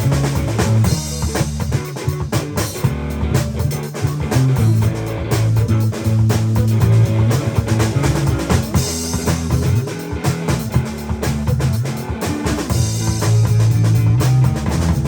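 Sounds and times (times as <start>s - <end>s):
band playing: 0.0s - 15.0s.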